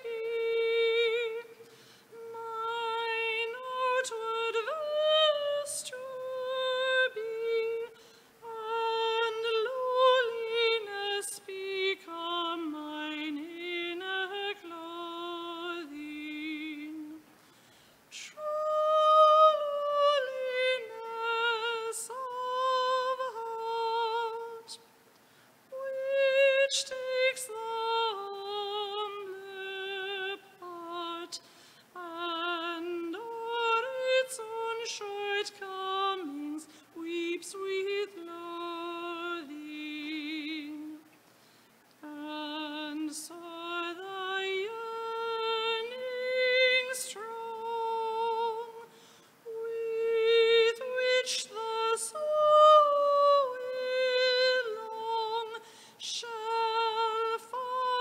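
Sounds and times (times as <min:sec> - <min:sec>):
woman singing: 0:00.0 - 0:17.4, 0:18.1 - 0:25.0, 0:25.7 - 0:41.2, 0:41.9 - 0:58.0.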